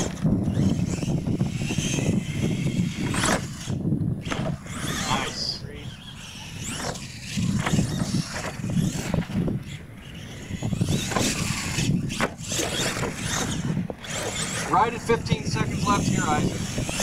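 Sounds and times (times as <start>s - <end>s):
toy truck motor whining: 0.0s - 17.0s.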